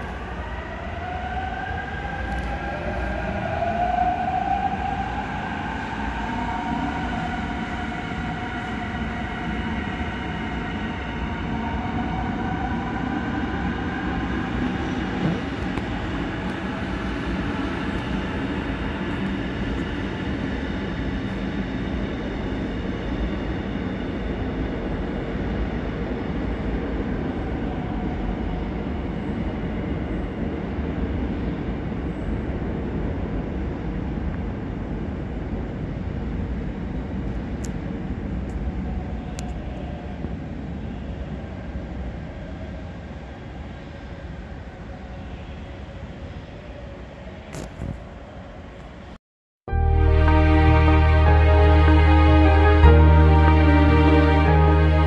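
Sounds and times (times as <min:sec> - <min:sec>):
subway train rumbling in tunnel: 0:00.0 - 0:55.0.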